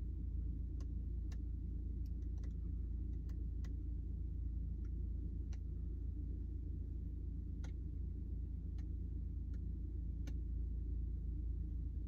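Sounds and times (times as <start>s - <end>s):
low hum in truck cab: 0.0s - 12.0s.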